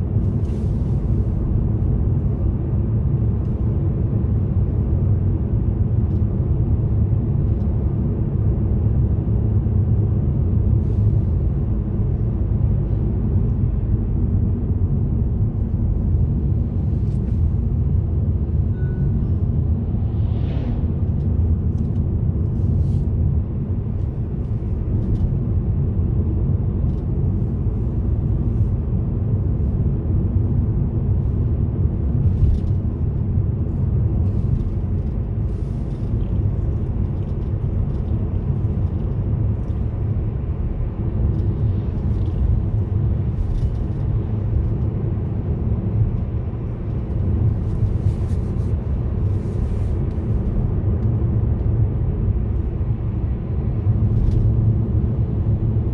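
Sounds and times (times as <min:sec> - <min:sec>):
car driving along a road: 0:00.0 - 0:55.9.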